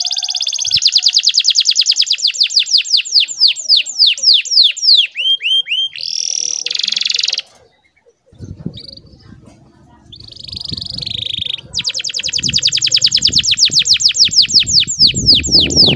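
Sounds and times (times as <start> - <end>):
canary singing: 0.0 - 15.9.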